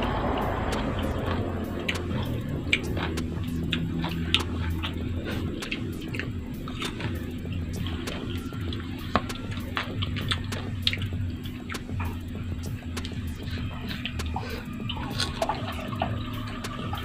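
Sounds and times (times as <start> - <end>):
crunching and chewing: 0.0 - 17.0
low steady hum: 0.0 - 17.0
mouth clicks: 0.0 - 17.0.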